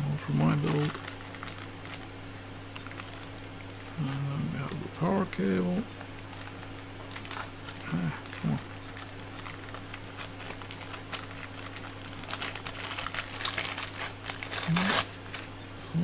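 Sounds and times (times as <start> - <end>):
plastic bag crinkling: 0.2 - 15.5
cable rustling: 0.3 - 2.1, 2.8 - 15.5.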